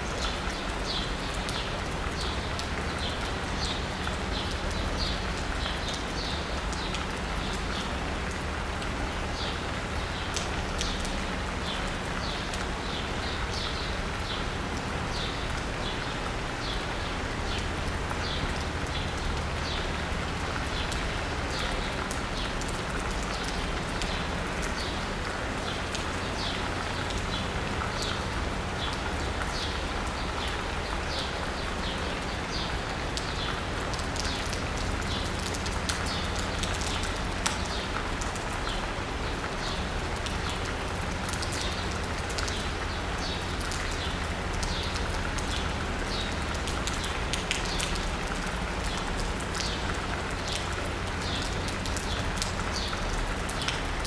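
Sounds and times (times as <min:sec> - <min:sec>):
low rumble of city traffic: 0:00.0 - 0:54.0
rain pattering on asphalt: 0:00.0 - 0:54.0
sharp water drips: 0:00.0 - 0:54.0.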